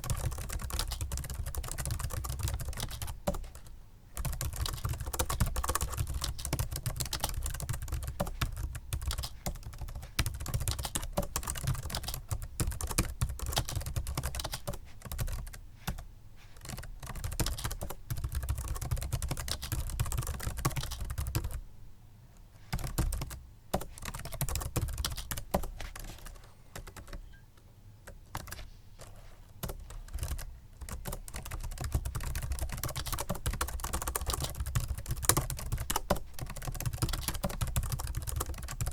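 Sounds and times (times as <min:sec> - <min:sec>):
fast typing on keyboard: 0:00.0 - 0:16.0, 0:16.6 - 0:21.6, 0:22.7 - 0:27.2, 0:28.2 - 0:38.9.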